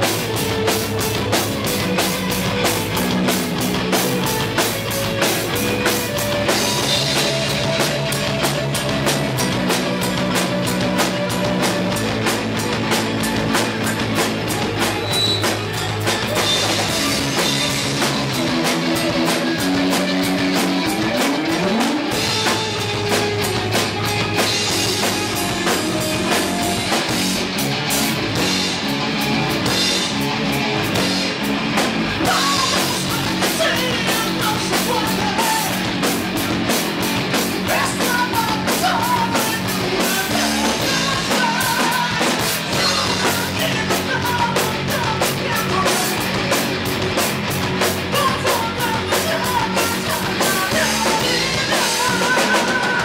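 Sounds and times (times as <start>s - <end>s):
heavy metal band playing live: 0.0s - 53.0s
wavering lead guitar: 0.0s - 53.0s.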